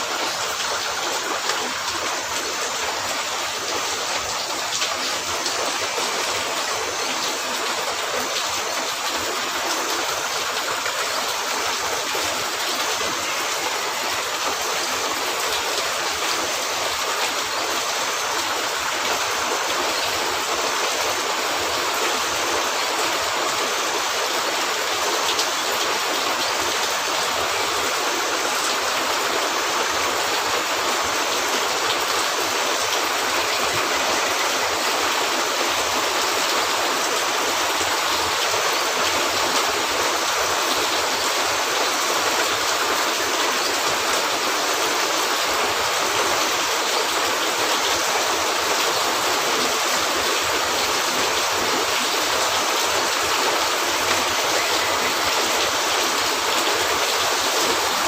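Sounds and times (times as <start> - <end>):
rain on a roof: 0.0 - 58.0.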